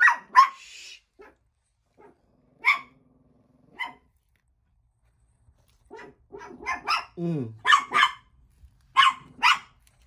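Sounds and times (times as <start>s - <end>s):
dog barking indoors: 0.0s - 4.4s, 5.5s - 10.0s.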